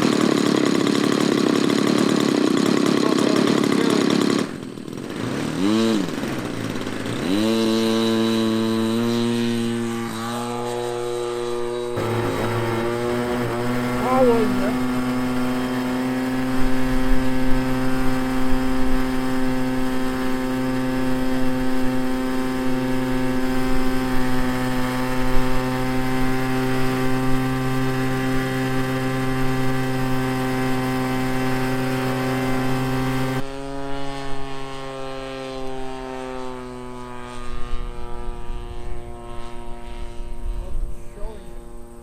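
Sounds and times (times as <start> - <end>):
model plane engine running: 0.0 - 42.0.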